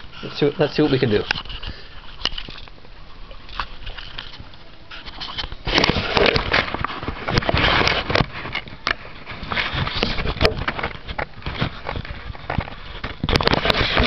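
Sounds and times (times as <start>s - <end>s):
camera handling noise: 1.2s - 2.8s, 3.5s - 14.0s.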